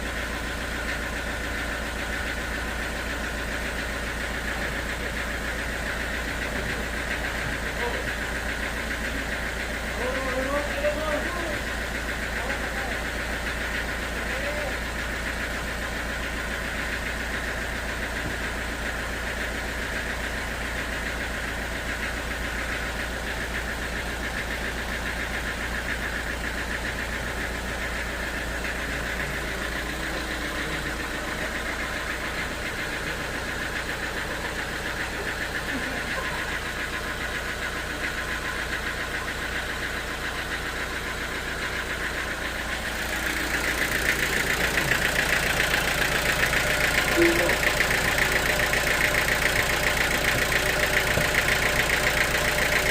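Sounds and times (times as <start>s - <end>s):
sawmill machinery running: 0.0s - 52.9s.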